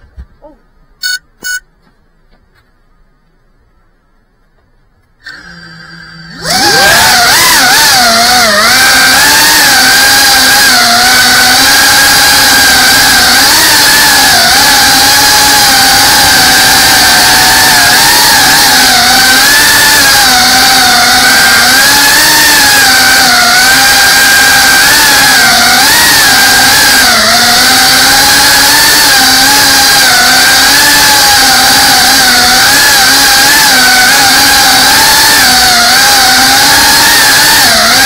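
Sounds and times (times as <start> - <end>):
drone motors whining: 4.0 - 38.0.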